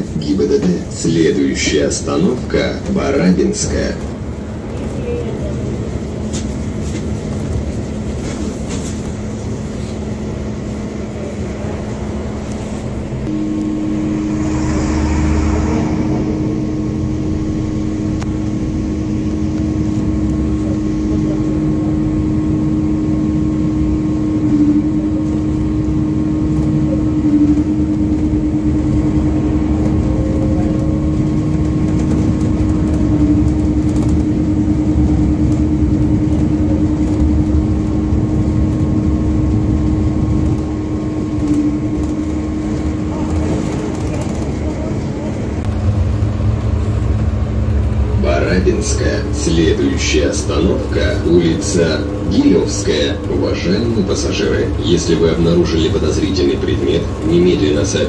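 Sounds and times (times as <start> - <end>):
bus engine whining: 0.0 - 58.0.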